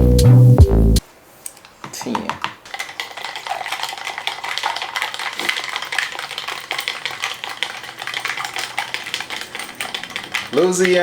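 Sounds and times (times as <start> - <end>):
clicking and scraping against bowl: 1.5 - 11.0
utensil stirring batter in bowl: 1.9 - 11.0.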